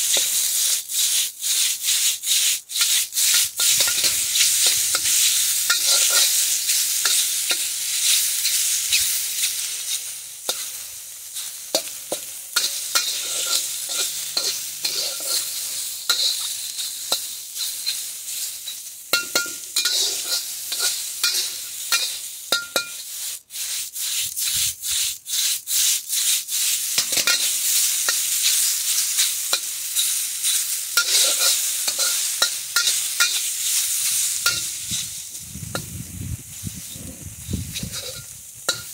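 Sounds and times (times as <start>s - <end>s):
food sizzling in a wok: 0.0s - 38.9s
metal ladle scraping a pan: 0.1s - 10.8s, 11.4s - 35.9s, 36.8s - 38.9s.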